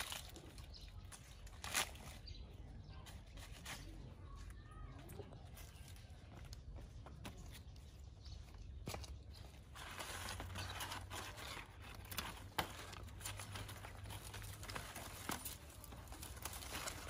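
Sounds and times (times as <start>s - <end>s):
leaves and paper bags rustling: 0.0s - 6.6s, 8.8s - 17.0s.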